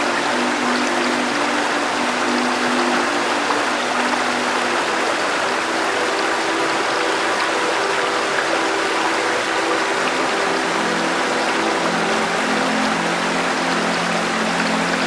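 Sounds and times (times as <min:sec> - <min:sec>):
river water flowing: 0:00.0 - 0:15.0
soft background music: 0:00.0 - 0:15.0.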